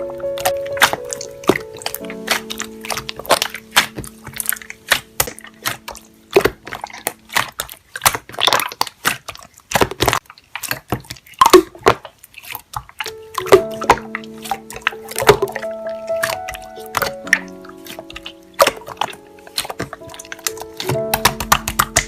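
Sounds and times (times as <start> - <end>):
slime crackling and squishing: 0.0 - 22.0.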